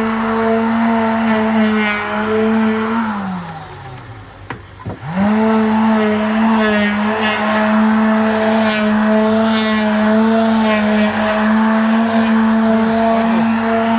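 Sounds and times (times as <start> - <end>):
power tool motor humming: 0.0 - 13.9.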